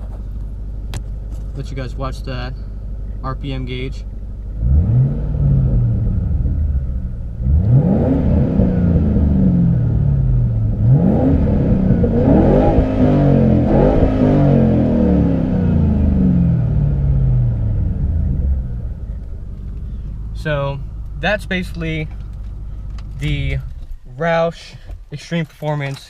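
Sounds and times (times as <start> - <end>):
car engine revving: 0.0 - 25.7.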